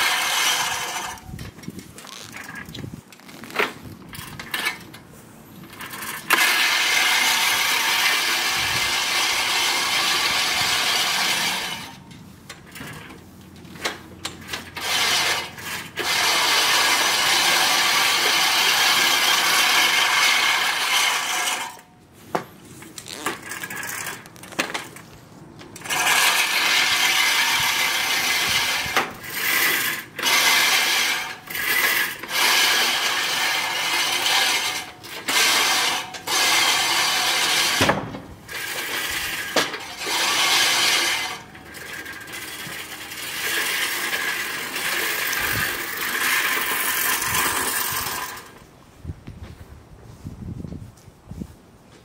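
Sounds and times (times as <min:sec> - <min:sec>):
reel mower blades whirring: 0:00.0 - 0:48.8.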